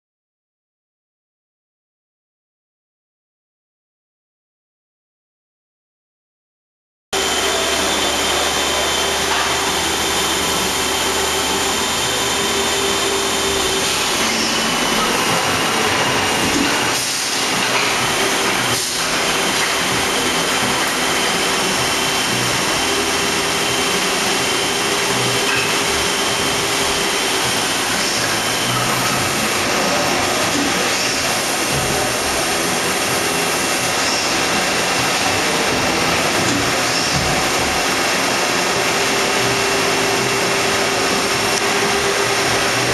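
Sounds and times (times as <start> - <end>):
lathe machine noise with whining: 7.2 - 42.9.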